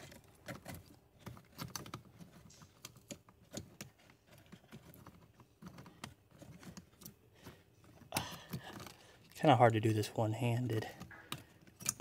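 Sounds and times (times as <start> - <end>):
plastic connectors clicking and rattling: 0.0 - 9.4, 10.6 - 12.0.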